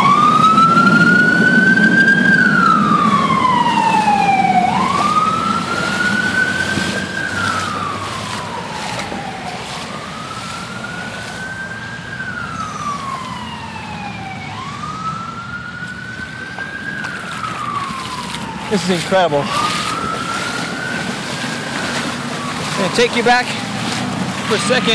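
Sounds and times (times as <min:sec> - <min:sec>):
emergency siren wailing: 0:00.0 - 0:24.9.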